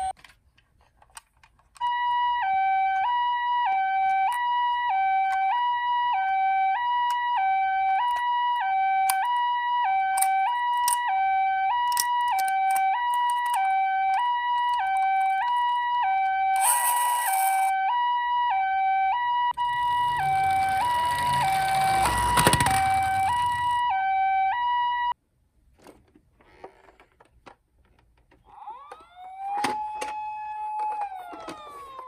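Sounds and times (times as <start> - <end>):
toy two-tone siren: 1.8 - 25.2, 28.5 - 32.0.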